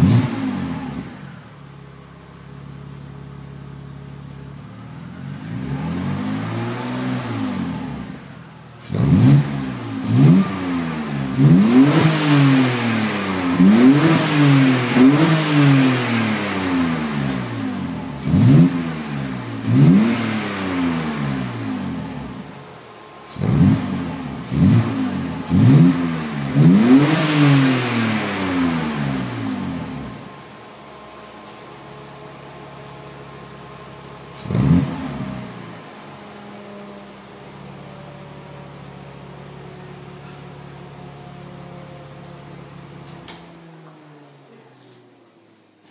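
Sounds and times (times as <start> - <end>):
car engine revving: 0.0 - 44.4
car engine idling: 0.0 - 45.9.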